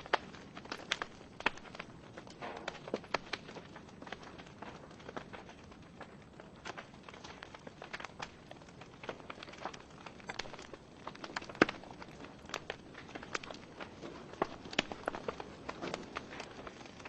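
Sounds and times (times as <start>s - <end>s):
logs crackling in fireplace: 0.0s - 17.0s.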